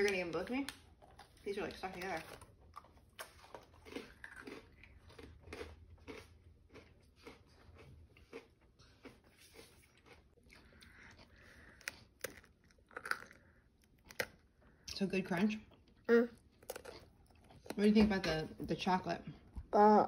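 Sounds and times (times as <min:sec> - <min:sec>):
crunching and chewing pretzels: 0:00.0 - 0:15.0, 0:15.6 - 0:18.0.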